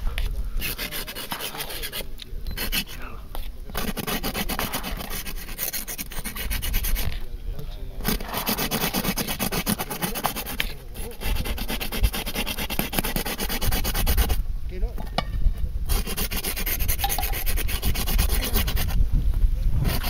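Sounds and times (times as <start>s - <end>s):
scratchy rasping and rubbing: 0.6s - 7.2s, 8.0s - 14.4s, 15.9s - 19.0s, 19.8s - 20.0s.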